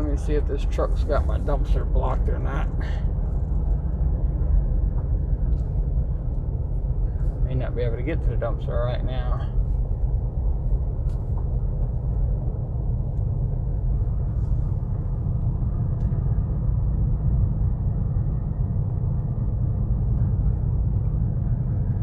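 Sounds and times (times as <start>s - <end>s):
vehicle engine and tyre rumble: 0.0s - 22.0s.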